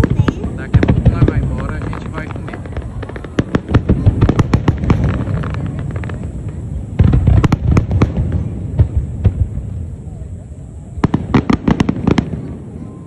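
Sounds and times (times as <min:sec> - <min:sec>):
fireworks crackling: 0:00.0 - 0:13.0
rumble of fireworks booms: 0:00.0 - 0:13.0
sharp fireworks bangs: 0:00.0 - 0:13.0.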